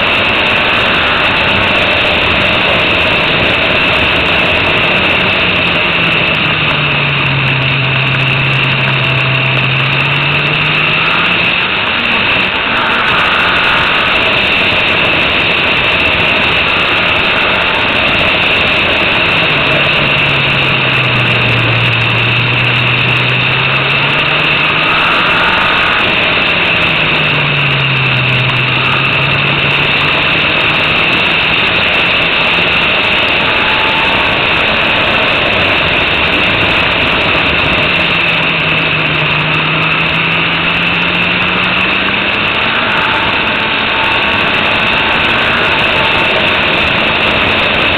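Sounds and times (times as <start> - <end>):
race car engine running hard: 0.0 - 47.9
steady high hiss: 0.0 - 47.9.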